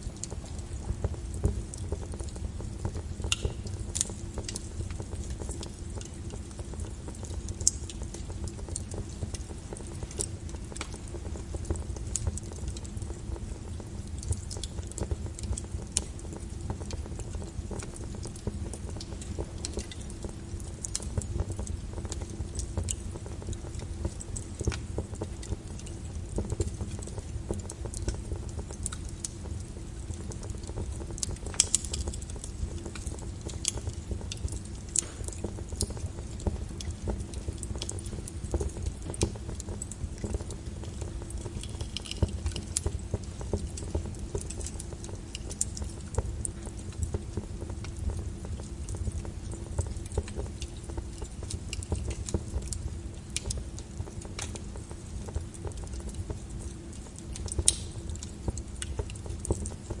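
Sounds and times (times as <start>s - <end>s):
low brown noise: 0.0s - 60.0s
wood fire crackling: 0.0s - 60.0s.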